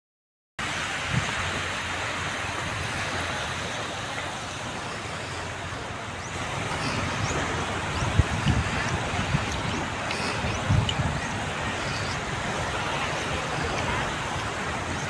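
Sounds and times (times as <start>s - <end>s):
surf washing onto beach: 0.6s - 15.0s
wind rumble on microphone: 0.7s - 3.5s, 4.6s - 15.0s.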